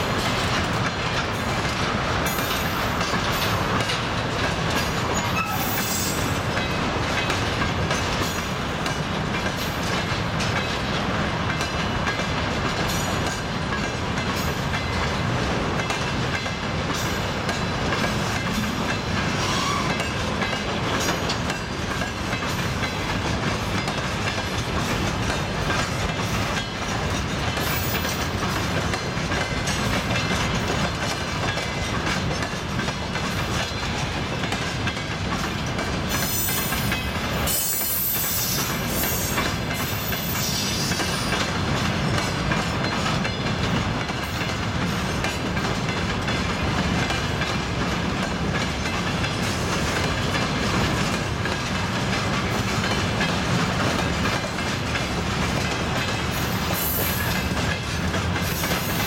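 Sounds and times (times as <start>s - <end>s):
freight train wheels clattering: 0.0s - 59.0s.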